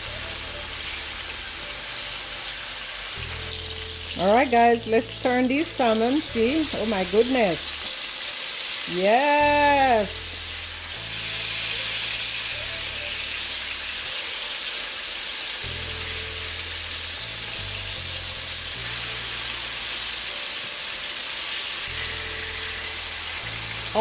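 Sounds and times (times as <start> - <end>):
fish sizzling in a skillet: 0.0 - 24.0.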